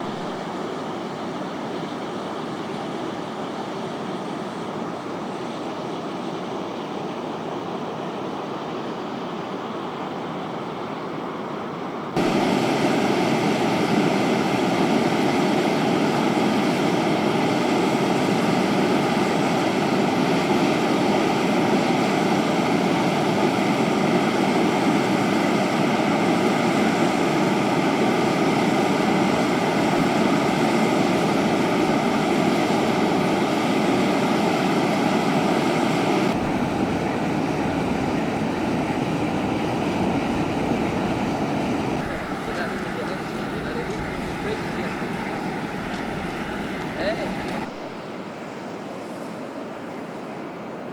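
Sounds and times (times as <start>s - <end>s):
steam vent hissing and roaring: 0.0s - 50.9s.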